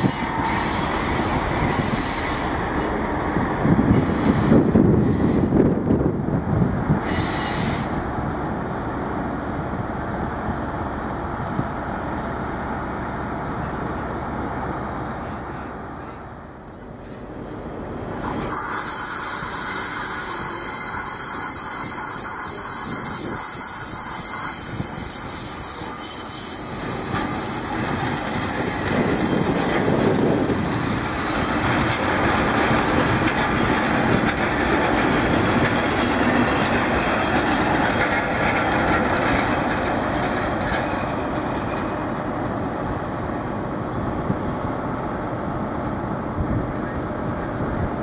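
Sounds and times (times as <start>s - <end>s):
diesel trains moving: 0.0s - 48.0s.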